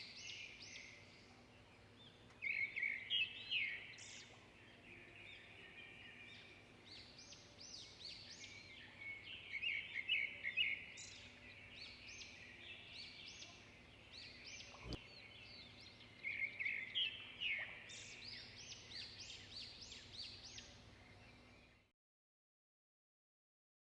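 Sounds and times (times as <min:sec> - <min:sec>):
faint steady background noise: 0:00.0 - 0:21.9
small birds chirping: 0:00.0 - 0:21.9.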